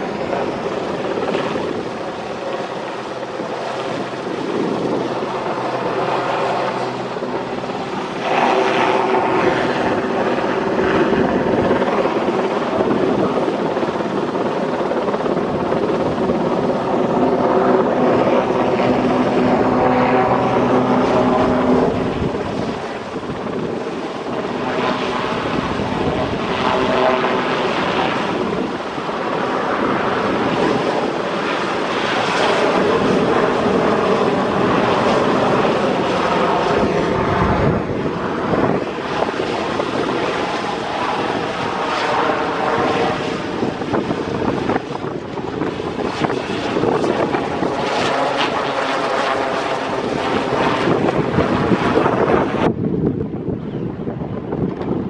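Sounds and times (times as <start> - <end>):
helicopter flying overhead: 0.0 - 55.0.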